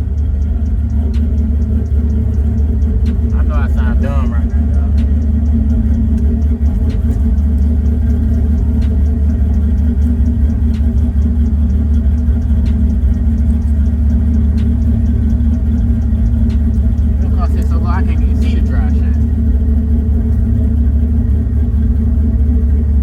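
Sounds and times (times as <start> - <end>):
car engine idling: 0.0 - 23.0
faint ticking: 0.0 - 23.0.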